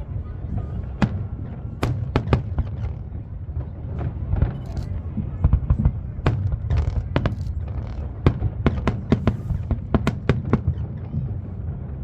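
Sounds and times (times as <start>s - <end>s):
continuous low rumble: 0.0s - 12.0s
fireworks exploding: 0.4s - 12.0s.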